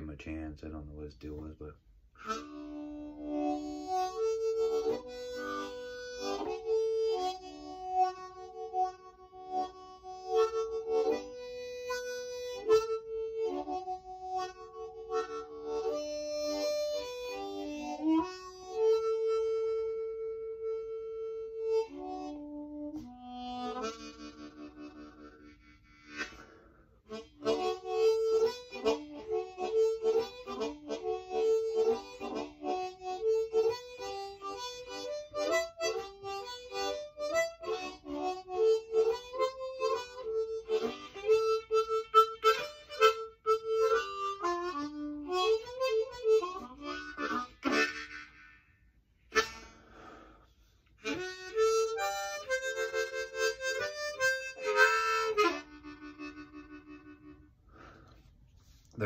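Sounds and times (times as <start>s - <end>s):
harmonica playing: 0.0s - 59.0s.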